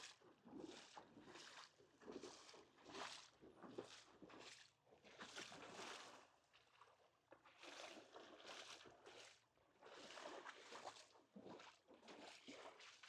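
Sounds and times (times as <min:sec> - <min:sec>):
small waves lapping on sand: 0:00.0 - 0:06.7, 0:07.5 - 0:13.0.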